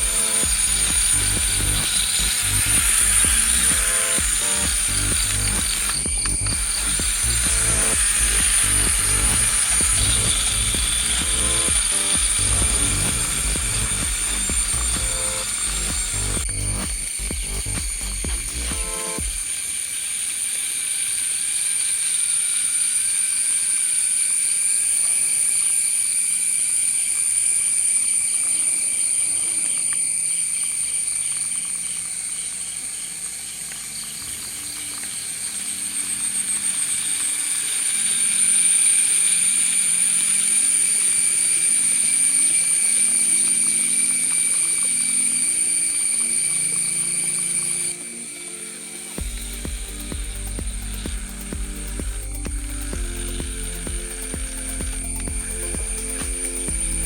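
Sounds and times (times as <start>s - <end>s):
small motor whining: 0.0s - 57.0s.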